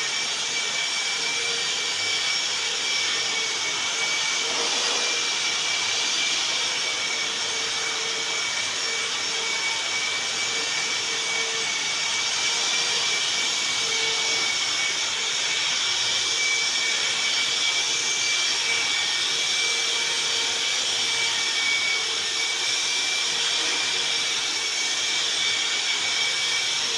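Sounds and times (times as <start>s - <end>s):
electric sander whirring: 0.0s - 26.9s.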